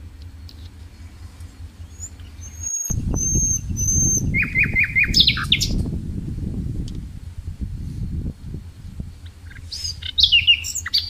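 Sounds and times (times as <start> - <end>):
low rumbling noise: 0.0 - 11.0
songbird singing: 0.0 - 11.0.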